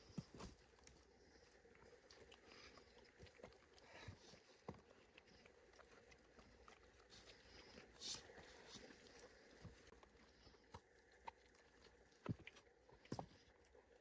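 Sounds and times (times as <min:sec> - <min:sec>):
soft rustle: 0:00.0 - 0:13.6.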